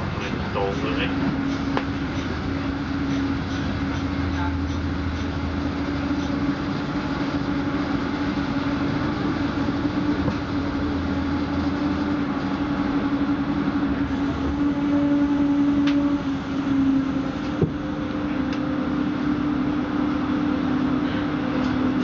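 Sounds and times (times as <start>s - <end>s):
constant hum: 0.0s - 22.0s
train rail running noise: 0.0s - 22.0s.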